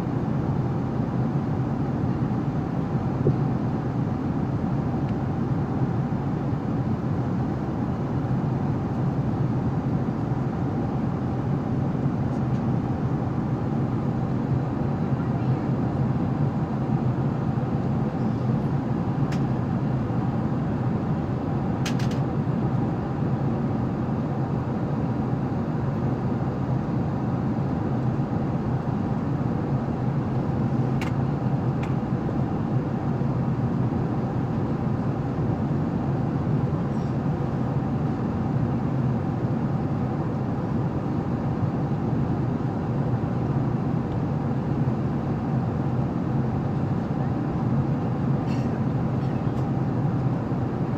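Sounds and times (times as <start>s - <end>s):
airliner cabin engine rush: 0.0s - 50.9s.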